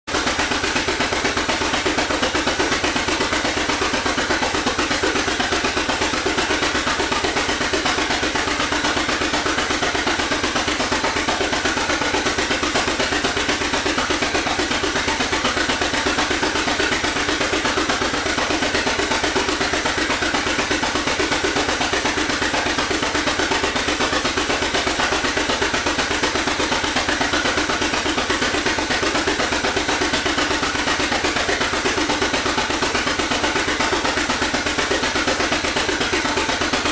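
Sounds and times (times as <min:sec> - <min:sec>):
tractor engine running steadily: 0:00.0 - 0:36.9.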